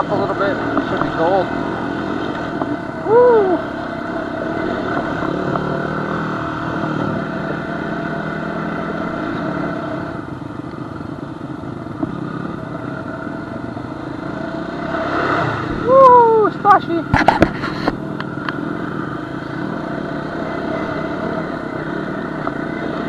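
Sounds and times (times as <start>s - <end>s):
off-road engine running: 0.0s - 23.0s.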